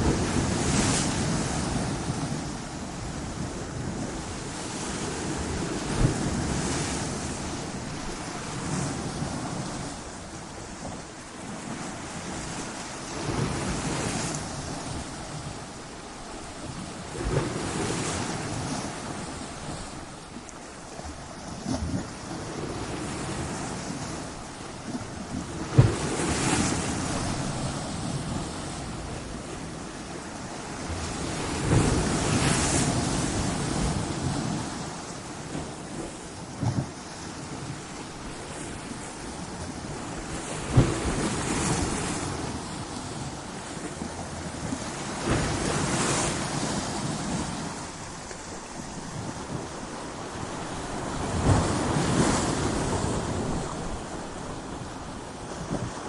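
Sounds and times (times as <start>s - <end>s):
waves crashing on rocks: 0.0s - 56.0s.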